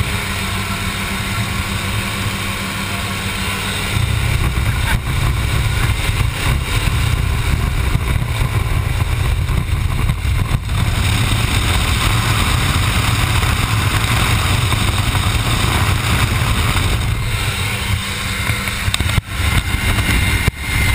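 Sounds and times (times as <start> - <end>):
aircraft engine drone: 0.0 - 20.9
wind rush in cabin: 0.0 - 20.9.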